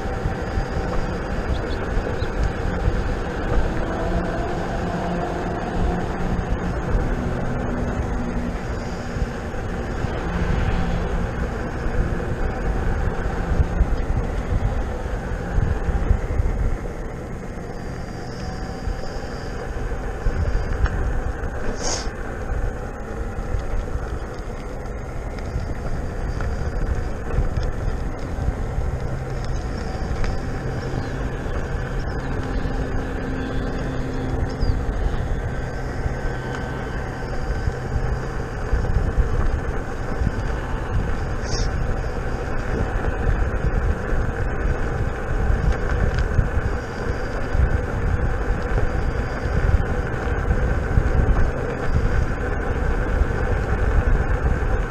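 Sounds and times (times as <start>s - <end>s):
faint hum: 0.0s - 54.9s
tyre rumble on asphalt: 0.0s - 54.9s
wind buffeting microphone: 0.0s - 54.9s.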